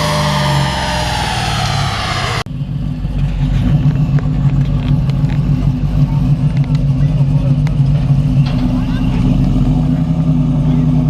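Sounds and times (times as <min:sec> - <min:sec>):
diesel engine idling: 0:00.0 - 0:11.0
truck engine winding down: 0:00.0 - 0:11.0.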